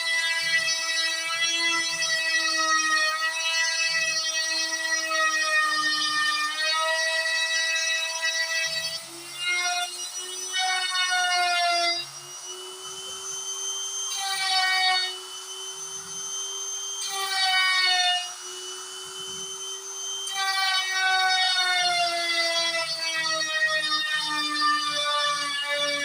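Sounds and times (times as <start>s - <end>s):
router spindle tone: 0.0s - 26.0s
stepper motors whining: 0.0s - 26.0s.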